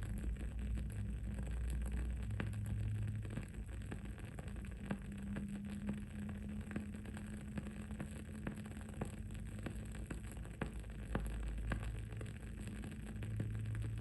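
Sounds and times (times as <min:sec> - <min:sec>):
low steady background hum: 0:00.0 - 0:14.0.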